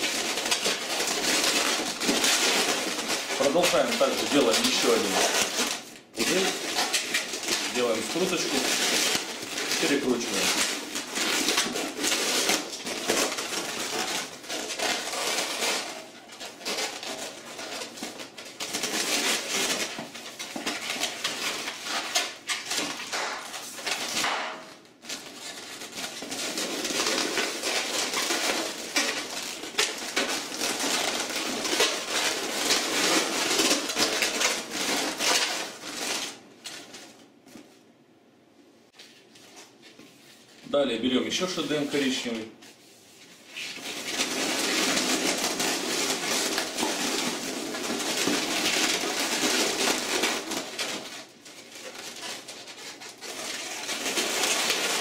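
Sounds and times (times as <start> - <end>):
balloons squeaking and rubbing: 0.0 - 36.5, 43.1 - 55.0.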